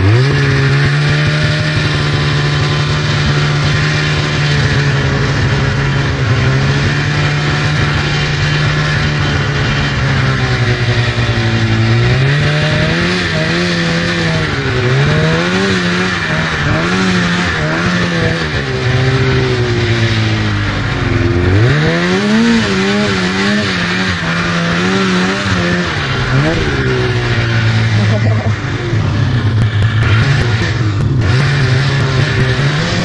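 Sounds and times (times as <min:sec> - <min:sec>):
snowmobile engine revving: 0:00.0 - 0:33.0.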